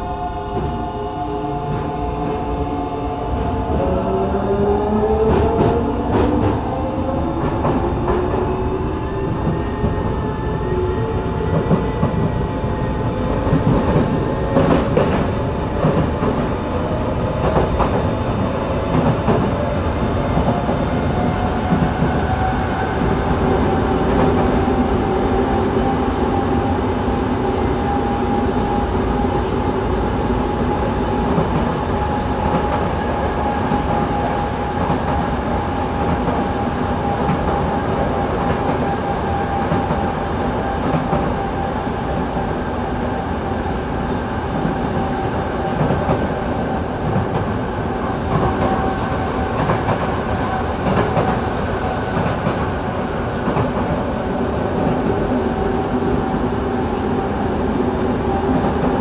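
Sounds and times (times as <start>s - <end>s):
rumble of train car: 0.0s - 59.0s.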